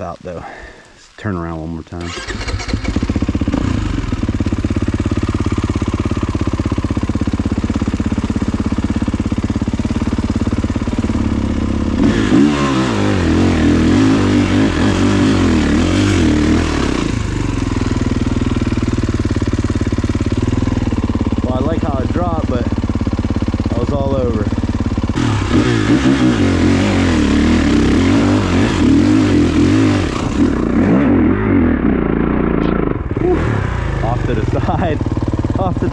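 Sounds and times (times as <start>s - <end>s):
dirt bike engine revving: 2.0s - 35.9s.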